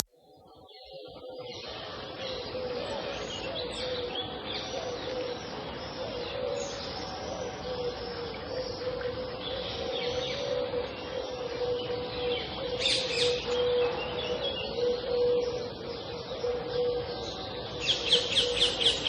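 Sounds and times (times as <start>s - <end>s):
birds chirping and calling: 0.0s - 19.0s
outdoor background noise: 0.0s - 19.0s.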